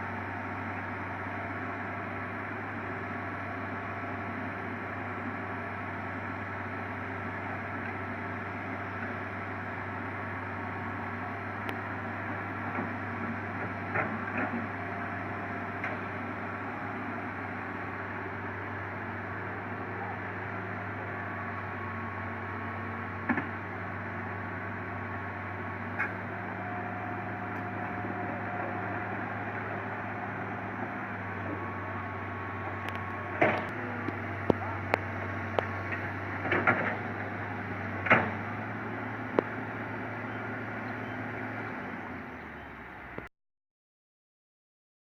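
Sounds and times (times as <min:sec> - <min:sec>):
excavator diesel engine running: 0:00.0 - 0:43.3.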